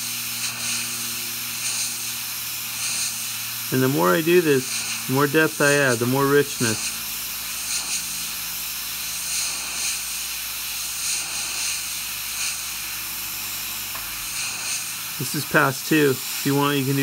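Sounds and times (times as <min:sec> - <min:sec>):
airbrush hissing: 0:00.0 - 0:17.0.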